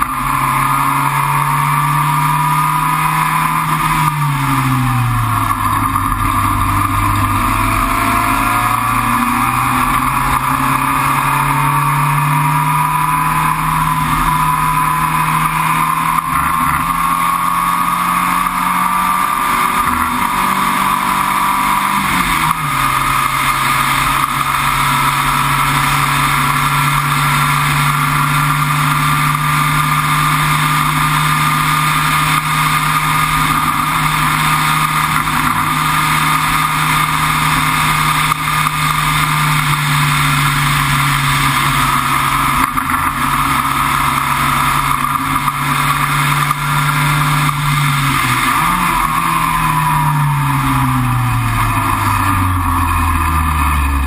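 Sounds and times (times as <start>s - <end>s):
racing car engine downshifting: 0.0s - 54.0s.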